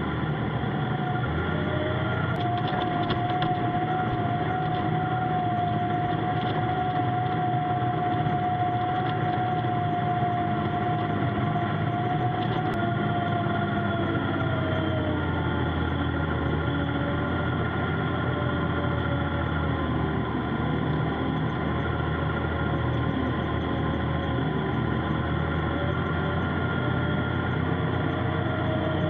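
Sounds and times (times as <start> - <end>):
high whine: 0.0 - 29.0
tractor engine running: 0.0 - 29.0.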